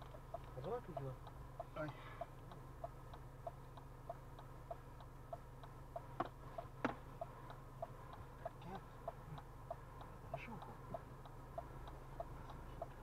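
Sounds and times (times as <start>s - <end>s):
car idling hum: 0.0s - 13.0s
turn signal ticking: 0.0s - 13.0s.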